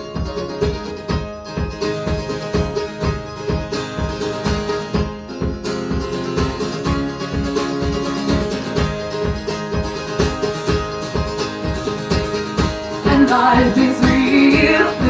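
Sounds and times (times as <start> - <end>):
strummed string chords: 0.0 - 15.0
steady low drum beat: 1.6 - 15.0.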